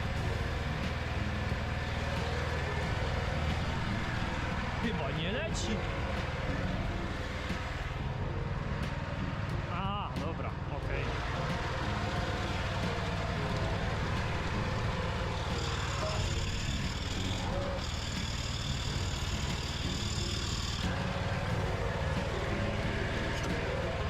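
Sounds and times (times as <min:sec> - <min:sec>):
high-pitched whine: 0:00.0 - 0:24.0
mini tractor engine running: 0:00.0 - 0:24.0.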